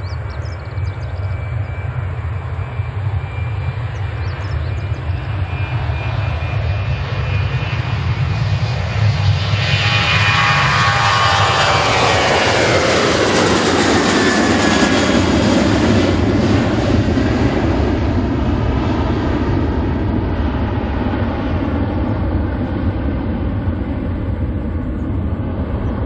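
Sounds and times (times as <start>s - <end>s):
jet engine deep rumble: 0.0s - 26.0s.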